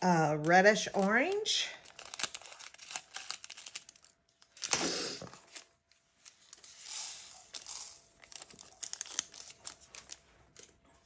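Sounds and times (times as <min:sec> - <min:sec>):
plastic bags crinkling and tearing: 0:00.8 - 0:06.7, 0:07.4 - 0:10.7.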